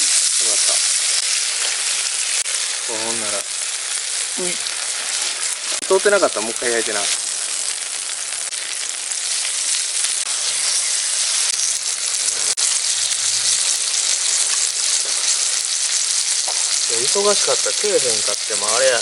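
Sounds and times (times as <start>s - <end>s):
steak sizzling: 0.0s - 19.0s.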